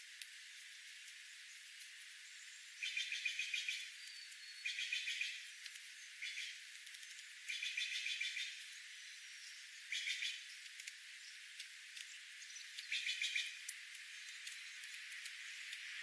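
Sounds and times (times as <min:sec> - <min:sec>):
faint steady hiss: 0:00.0 - 0:16.0
small birds chirping: 0:00.1 - 0:16.0.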